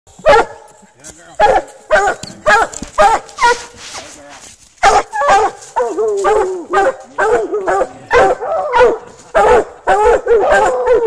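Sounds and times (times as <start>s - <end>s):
hounds barking: 0.2s - 3.8s, 4.8s - 11.0s.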